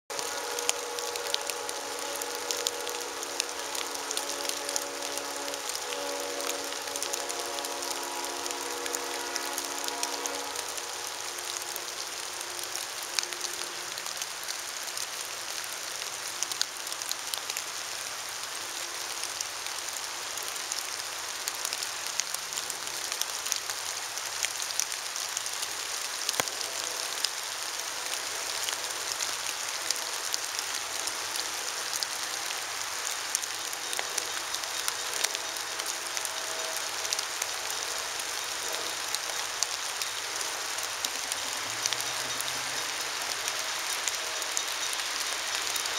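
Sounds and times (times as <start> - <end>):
rain hissing: 0.1 - 45.9.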